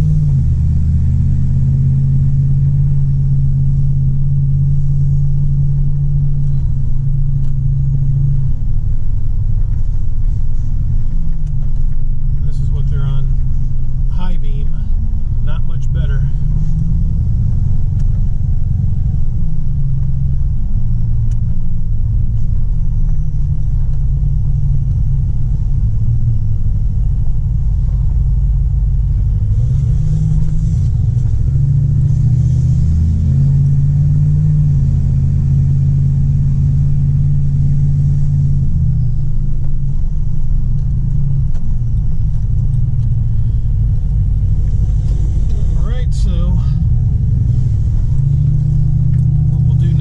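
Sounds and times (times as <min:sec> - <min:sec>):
pickup truck engine and road rumble: 0:00.0 - 0:50.0.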